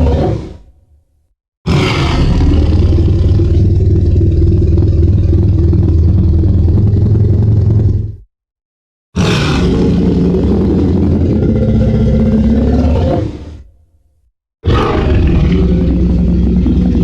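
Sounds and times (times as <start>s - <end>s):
deep rumbling monster roar: 0.0s - 0.7s, 1.7s - 8.3s, 9.2s - 13.7s, 14.6s - 17.0s.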